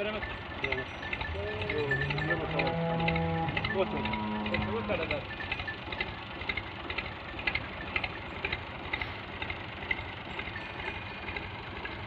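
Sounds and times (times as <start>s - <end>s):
machine rumbling: 0.0s - 12.0s.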